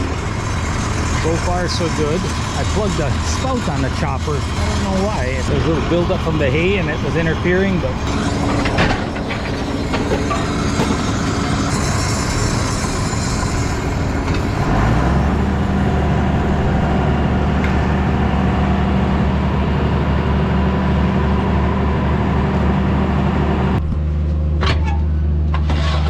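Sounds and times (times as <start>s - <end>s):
forage chopper mechanical din: 0.0s - 21.5s
low engine drone: 0.0s - 26.0s.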